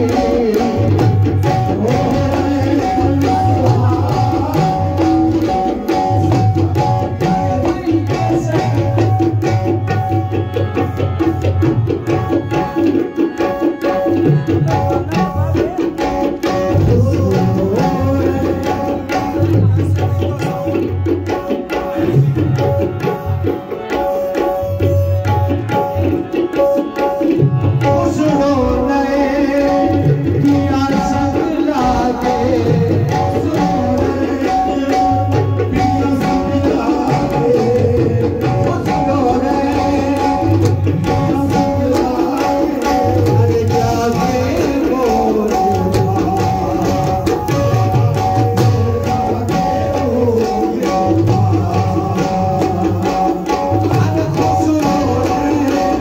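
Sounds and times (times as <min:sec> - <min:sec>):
harmonium held notes: 0:00.0 - 0:56.0
tabla strokes: 0:00.0 - 0:56.0.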